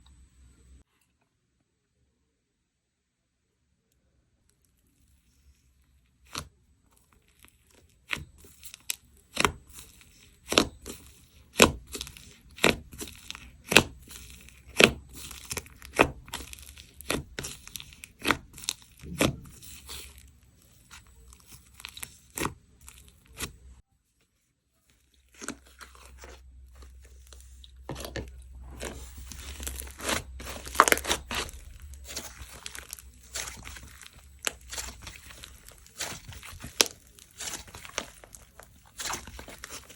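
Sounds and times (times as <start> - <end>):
slime crackling and crinkling: 4.6 - 39.9.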